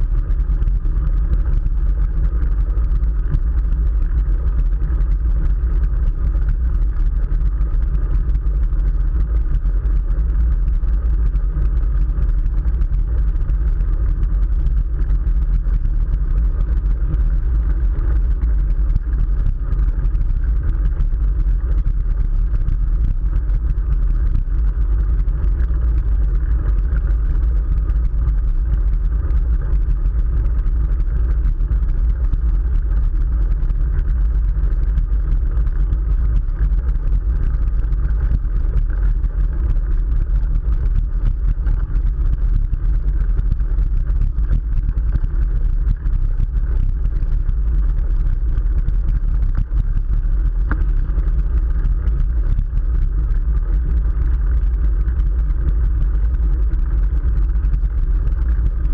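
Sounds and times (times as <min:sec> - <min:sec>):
low wind rumble on microphone: 0:00.0 - 0:58.9.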